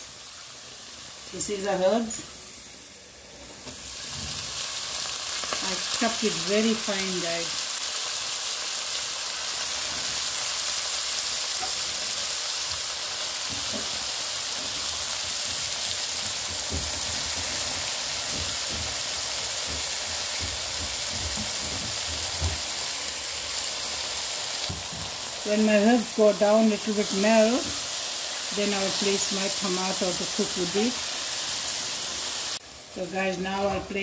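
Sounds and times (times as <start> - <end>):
oil sizzling in a pot: 0.0 - 34.0.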